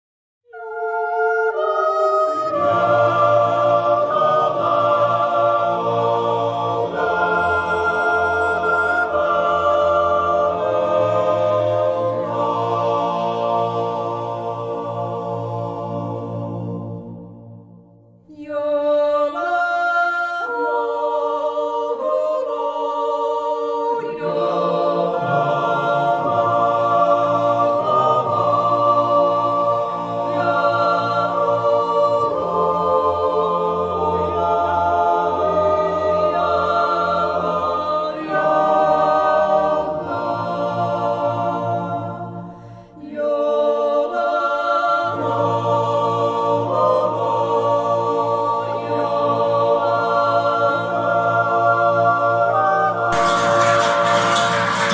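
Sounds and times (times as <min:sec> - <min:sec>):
choir singing a cappella: 0:00.5 - 0:54.9.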